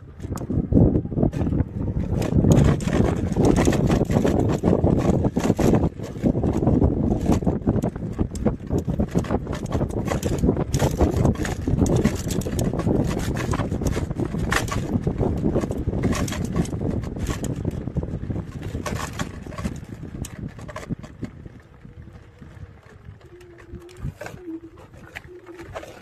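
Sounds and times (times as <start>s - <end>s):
wind buffeting microphone: 0.0s - 26.0s
scooter clattering over road: 1.2s - 26.0s.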